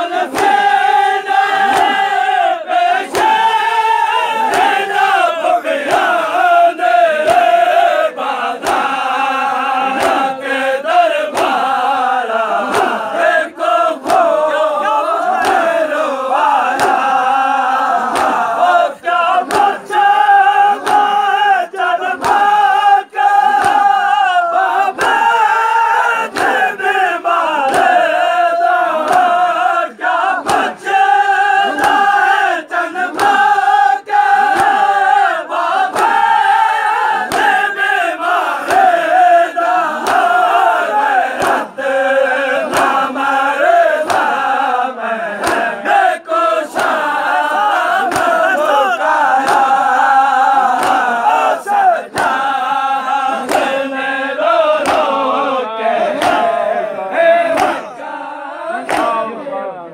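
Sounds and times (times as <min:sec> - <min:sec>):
hands slapping chests: 0:00.0 - 0:44.7, 0:45.3 - 0:46.0, 0:46.6 - 0:54.0, 0:54.8 - 0:55.4, 0:56.0 - 0:56.8, 0:57.4 - 0:58.0, 0:58.8 - 0:59.3
men chanting in unison: 0:00.0 - 0:59.9.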